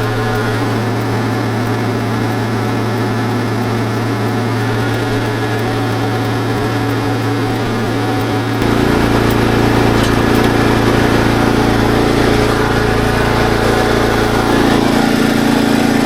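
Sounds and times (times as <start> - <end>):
deeper mechanical hum: 0.0 - 16.0
small engine running: 0.0 - 16.0.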